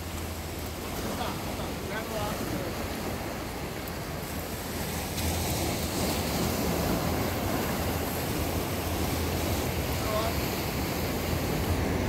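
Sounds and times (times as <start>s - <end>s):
waves breaking against rocks: 0.0s - 12.0s
wind rumbling on microphone: 0.0s - 12.0s.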